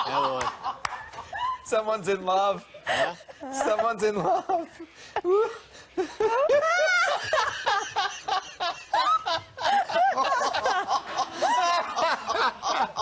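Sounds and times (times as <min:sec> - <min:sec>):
people laughing: 0:00.0 - 0:01.6, 0:02.8 - 0:13.0.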